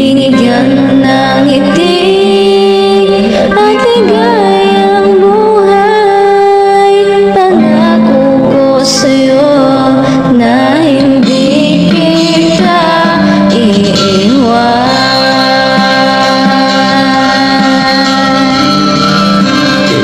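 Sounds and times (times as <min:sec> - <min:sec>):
woman singing a slow ballad: 0:00.0 - 0:19.2
backing track music: 0:00.0 - 0:20.0.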